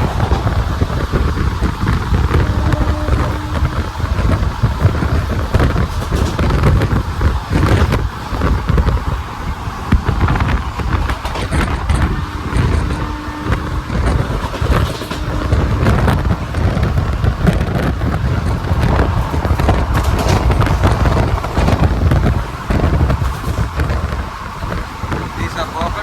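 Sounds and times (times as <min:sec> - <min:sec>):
train rumbling on track: 0:00.0 - 0:26.0
train wheel clicks and knocks: 0:00.0 - 0:26.0.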